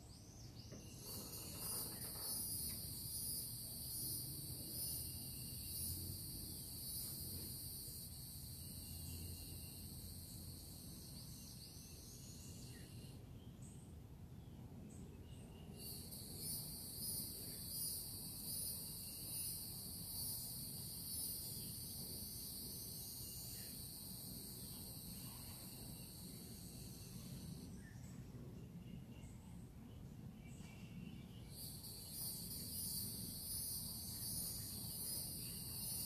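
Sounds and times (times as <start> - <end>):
insects trilling: 0.0 - 13.2, 15.7 - 28.0, 31.1 - 36.0
faint bird chirps: 0.0 - 36.0.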